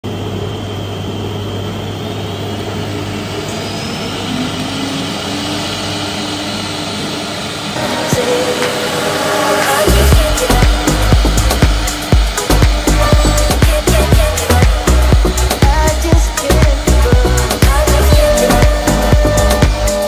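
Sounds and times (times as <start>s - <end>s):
cnc router machining wood: 0.1s - 20.0s.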